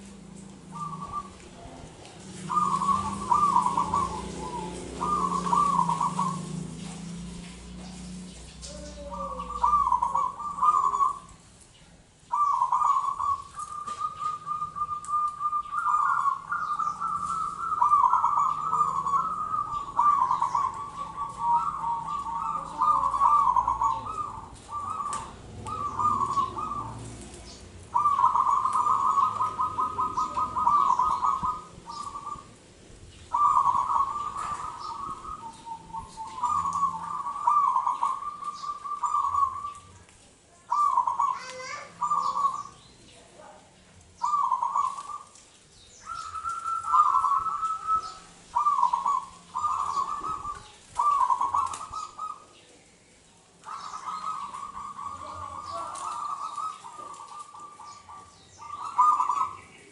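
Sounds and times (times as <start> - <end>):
dove cooing song: 0.0 - 59.9.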